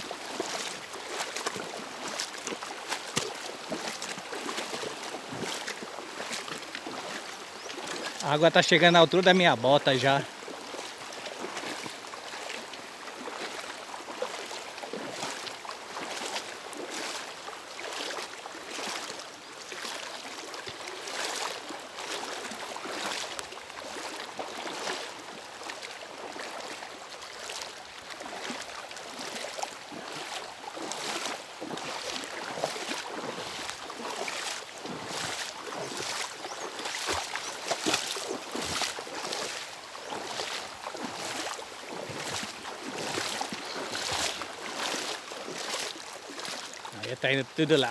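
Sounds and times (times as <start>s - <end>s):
boots splashing through water: 0.0s - 47.9s.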